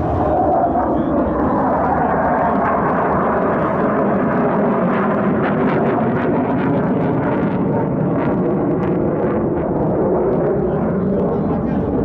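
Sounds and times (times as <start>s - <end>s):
jet engine running: 0.0s - 12.0s.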